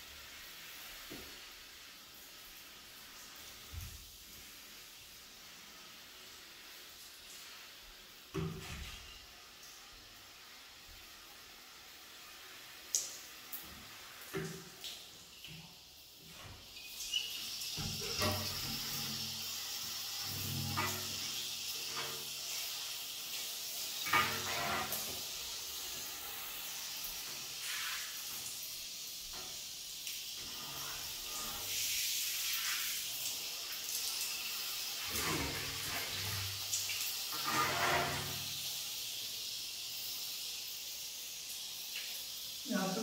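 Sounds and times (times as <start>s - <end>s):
shower water spraying on tiles: 0.0s - 43.0s.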